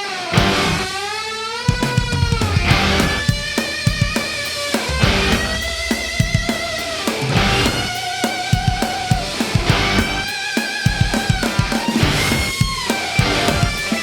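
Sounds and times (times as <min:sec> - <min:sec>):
rock music with drums and guitar: 0:00.0 - 0:14.0.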